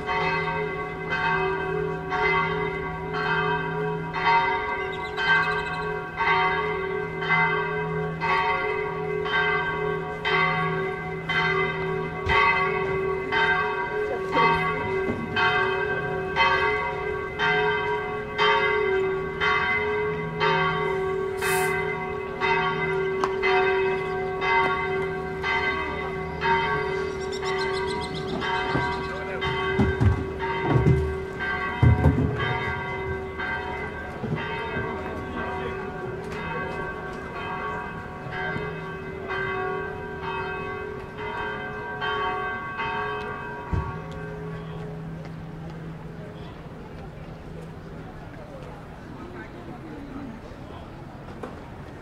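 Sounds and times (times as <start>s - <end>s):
bells ringing in a peal: 0.0s - 52.0s.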